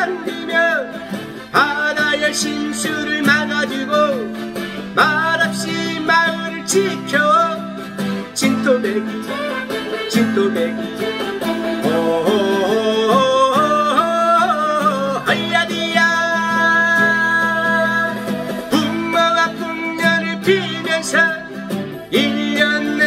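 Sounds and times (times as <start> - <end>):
acoustic guitar strumming: 0.0 - 23.0
man singing with vibrato: 0.0 - 23.0.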